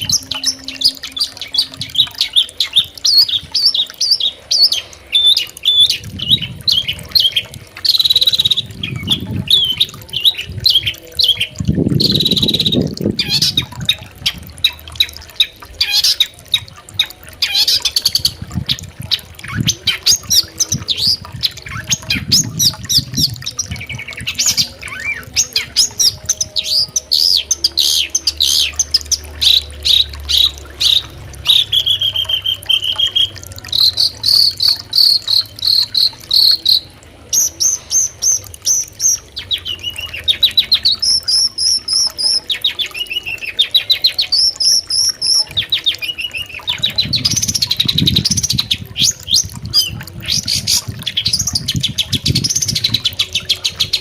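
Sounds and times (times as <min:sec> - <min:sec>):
bird singing trills and whistles: 0:00.0 - 0:54.0.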